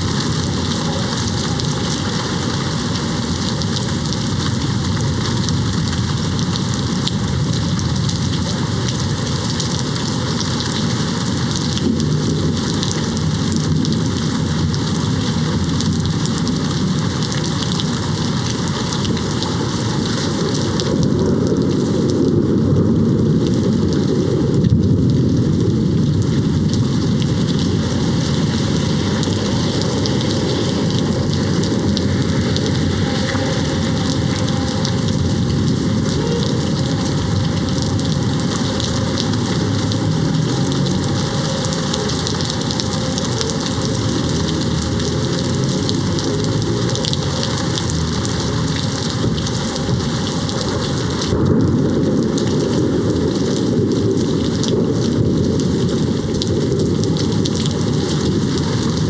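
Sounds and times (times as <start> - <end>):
distant thunder rumbling: 0.0 - 59.0
heavy rain hitting window: 0.0 - 59.0.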